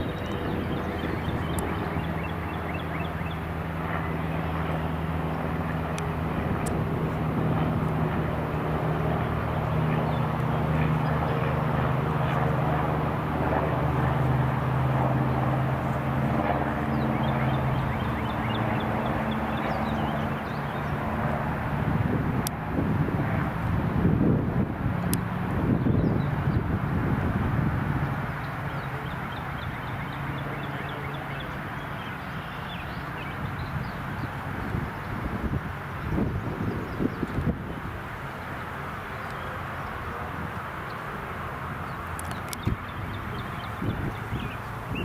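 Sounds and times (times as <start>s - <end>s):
airplane engine drone: 0.0s - 45.0s.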